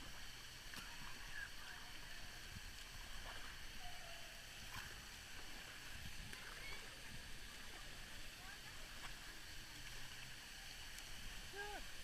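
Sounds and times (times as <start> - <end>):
water lapping and sloshing: 0.0 - 12.0.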